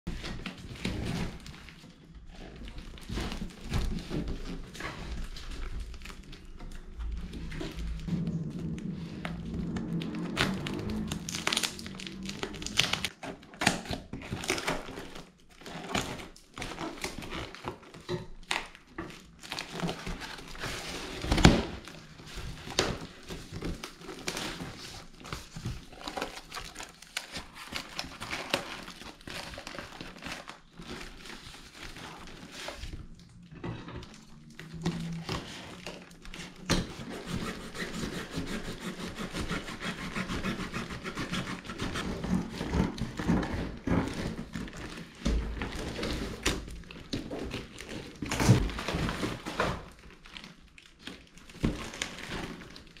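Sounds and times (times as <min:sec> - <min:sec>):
tearing cardboard: 0:00.1 - 0:33.2, 0:34.1 - 0:53.0
crinkling plastic: 0:00.1 - 0:53.0.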